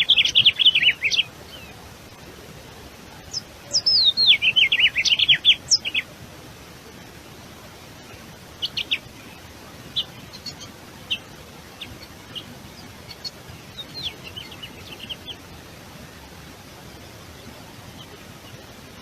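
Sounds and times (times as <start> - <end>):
small birds chirping: 0.0 - 19.0
steady background hiss: 0.0 - 19.0.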